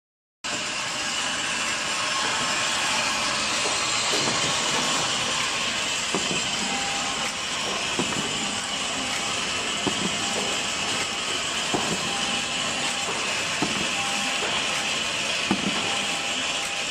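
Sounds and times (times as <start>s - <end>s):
machine hissing and rattling: 0.5s - 16.9s.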